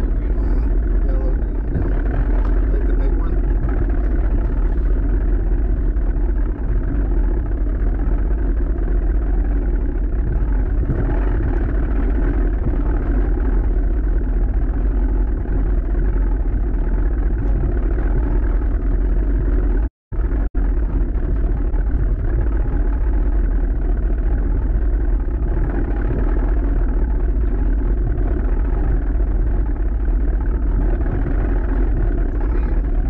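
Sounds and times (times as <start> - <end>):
boat motor rumbling: 0.0 - 33.0.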